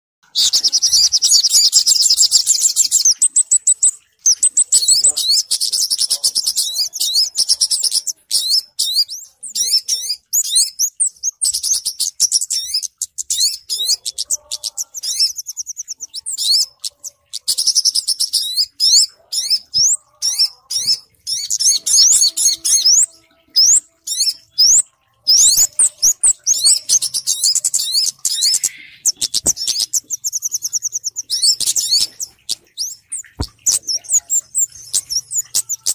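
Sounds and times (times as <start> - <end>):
small birds chirping trills: 0.2 - 35.9.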